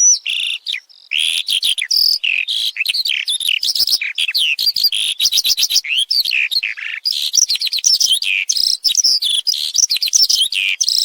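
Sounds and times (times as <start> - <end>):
skylark singing: 0.0 - 11.0.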